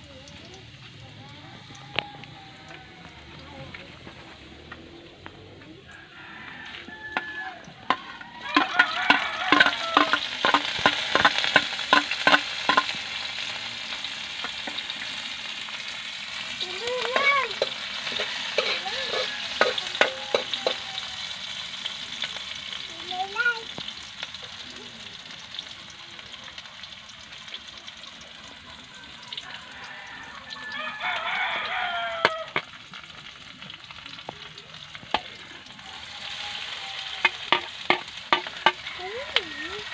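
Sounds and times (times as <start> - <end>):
onion sizzling in hot oil: 0.0 - 39.9.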